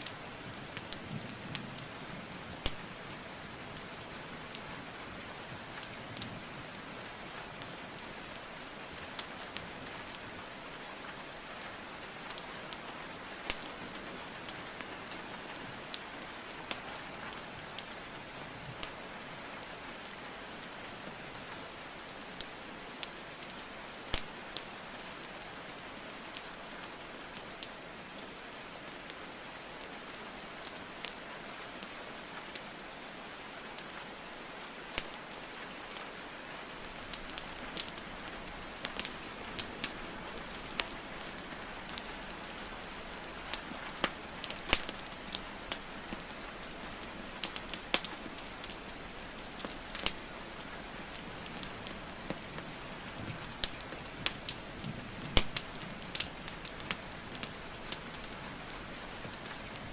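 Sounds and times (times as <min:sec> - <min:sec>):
burning logs crackling and popping: 0:00.0 - 0:59.9
steady rainfall: 0:00.0 - 0:59.9.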